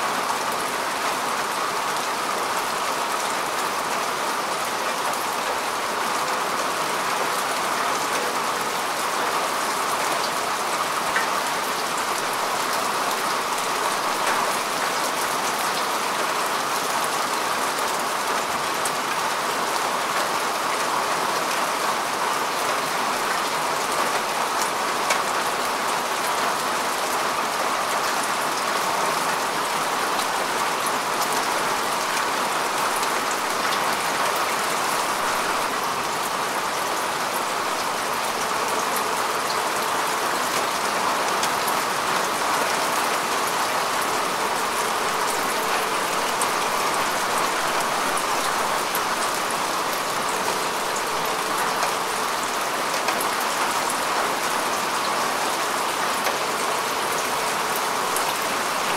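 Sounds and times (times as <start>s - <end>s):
rain falling on grass: 0.0s - 58.9s.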